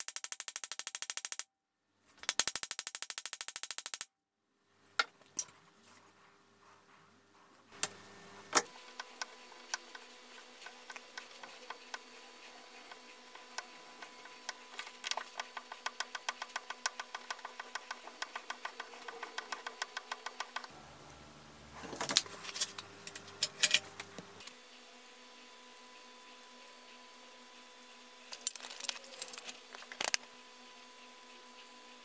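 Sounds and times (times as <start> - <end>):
faint hum: 4.6 - 32.0.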